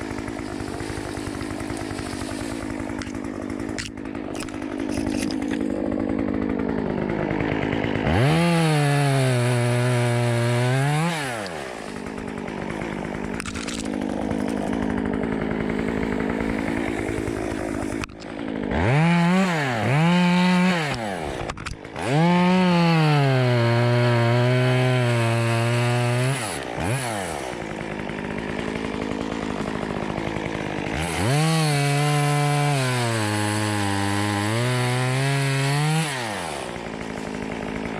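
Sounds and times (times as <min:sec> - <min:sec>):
chainsaw revving and idling: 0:00.0 - 0:37.9.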